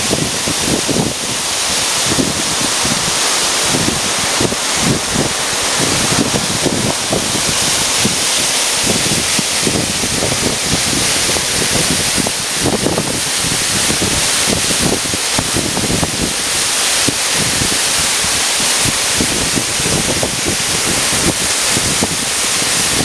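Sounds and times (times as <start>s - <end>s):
waterfall pouring into pool: 0.0s - 23.0s.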